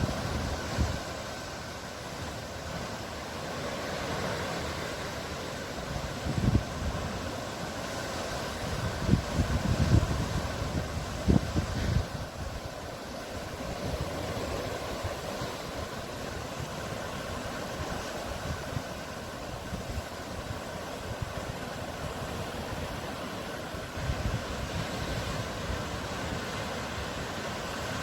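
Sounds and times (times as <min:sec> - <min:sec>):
sea waves washing: 0:00.0 - 0:28.0.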